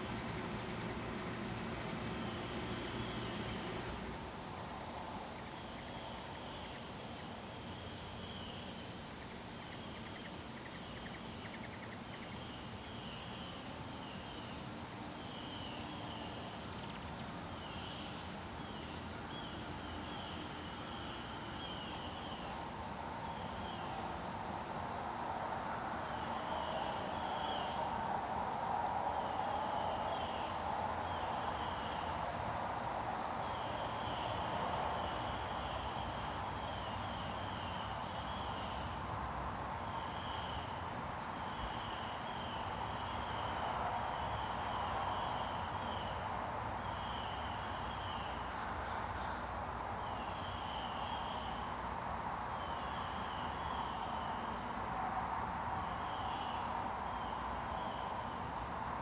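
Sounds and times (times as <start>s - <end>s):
distant traffic hum: 0.0s - 59.0s.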